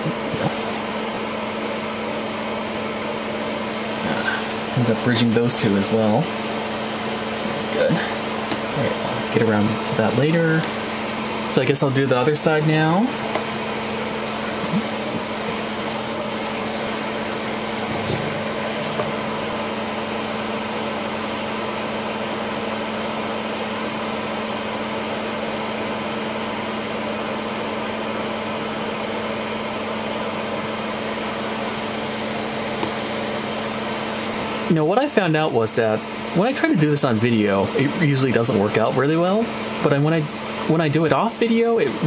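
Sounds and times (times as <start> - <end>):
fan humming: 0.0 - 42.0.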